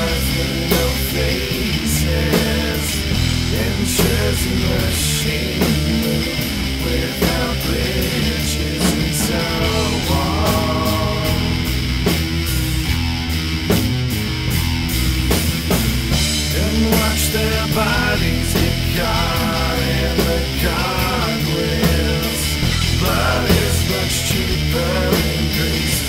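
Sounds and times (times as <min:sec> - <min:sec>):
heavy rock music: 0:00.0 - 0:26.0.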